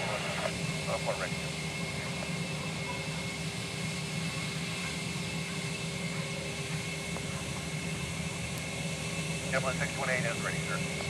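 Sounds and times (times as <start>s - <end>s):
jet engines whining and rumbling: 0.0s - 11.0s.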